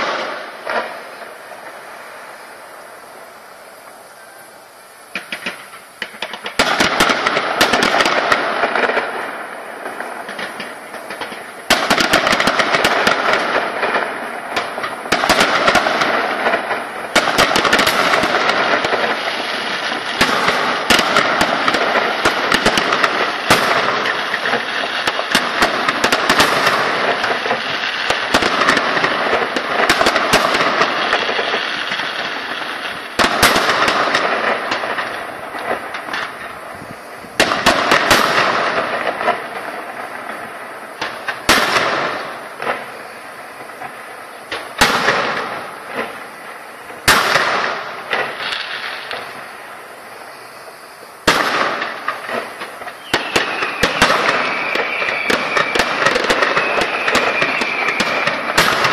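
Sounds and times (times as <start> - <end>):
fireworks bursting with crackling: 0.0 - 58.9.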